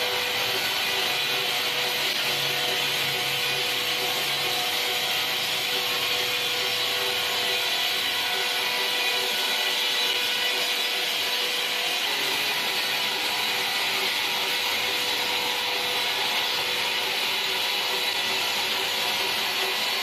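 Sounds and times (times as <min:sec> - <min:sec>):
band saw cutting timber: 0:00.0 - 0:20.0.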